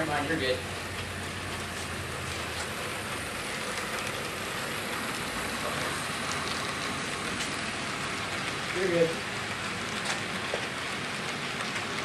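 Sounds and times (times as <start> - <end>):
model train wheels whirring: 0.0 - 12.0.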